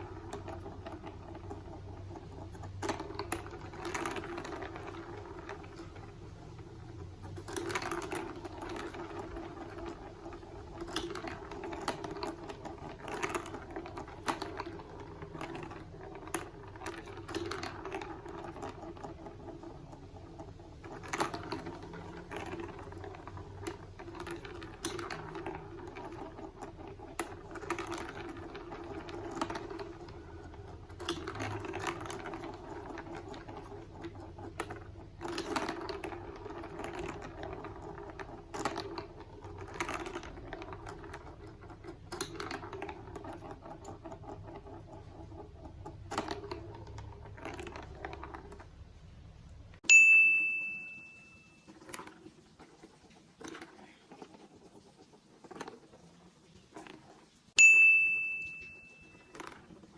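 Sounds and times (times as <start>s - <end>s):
marbles clicking against track: 0.0s - 49.8s, 50.4s - 59.9s
marbles rolling on plastic track: 0.0s - 49.8s, 50.4s - 59.9s.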